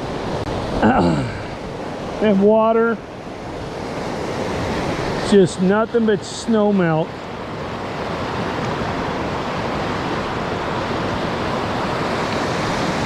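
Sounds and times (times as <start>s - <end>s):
fast creek rushing: 0.0s - 13.0s.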